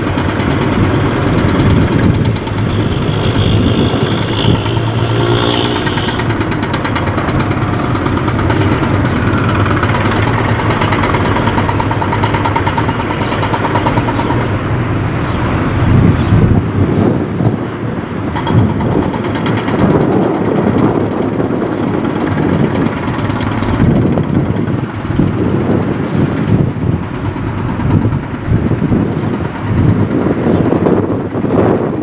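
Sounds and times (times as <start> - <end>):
vehicle engine rumble: 0.0 - 32.0.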